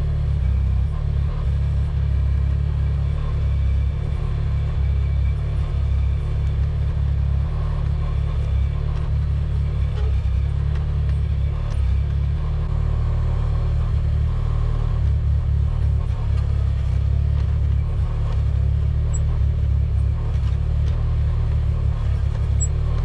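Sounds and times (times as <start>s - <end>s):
excavator engine rumbling: 0.0s - 23.0s.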